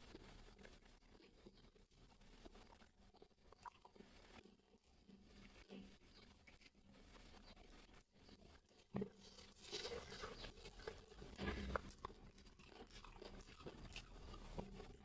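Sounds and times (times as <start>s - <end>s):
person chewing crispy chicken: 0.1s - 15.0s.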